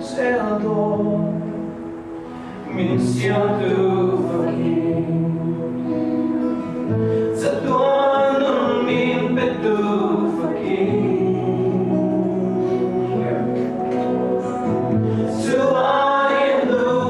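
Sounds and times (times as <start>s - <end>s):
group of voices singing: 0.0s - 17.0s
instruments playing: 1.2s - 17.0s.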